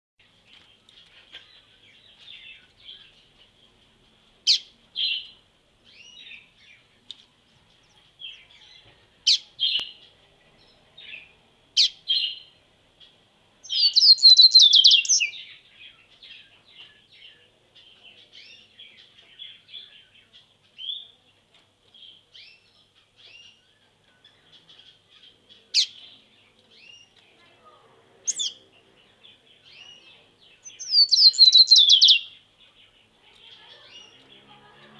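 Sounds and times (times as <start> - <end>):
songbirds chirping and calling: 0.2 - 34.9.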